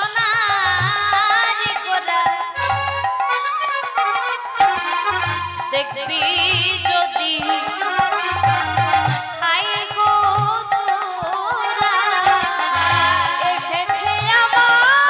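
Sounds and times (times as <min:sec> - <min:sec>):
harmonium sustained notes: 0:00.0 - 0:15.0.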